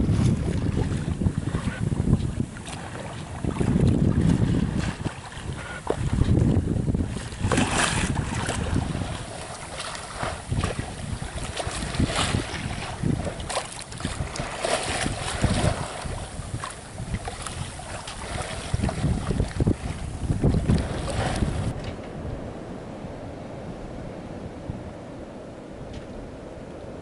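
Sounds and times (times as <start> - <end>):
water splashing along boat hull: 0.0 - 22.3
wind buffeting microphone: 0.0 - 27.0.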